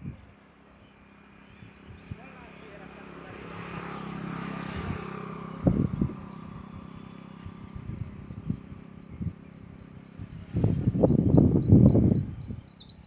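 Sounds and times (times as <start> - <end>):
outdoor background noise: 0.0 - 13.0
passing engine: 0.0 - 13.0.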